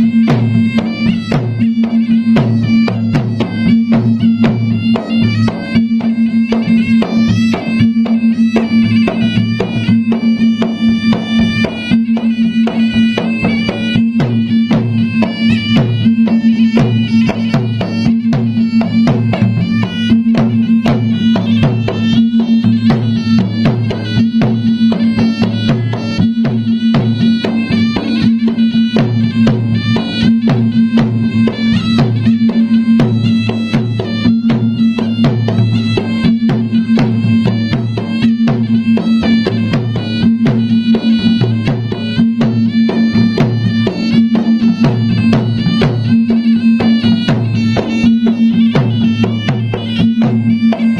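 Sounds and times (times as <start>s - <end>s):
rapid drumming: 0.0s - 50.9s
reedy wind melody: 0.0s - 50.9s.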